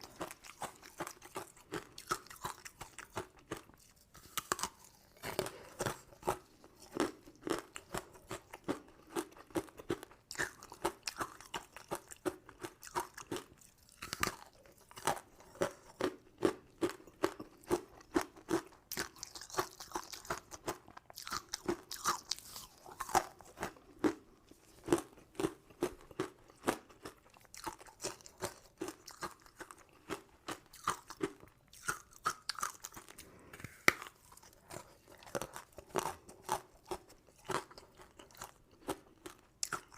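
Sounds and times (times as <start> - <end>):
chewing crunchy sweets: 0.0 - 39.9.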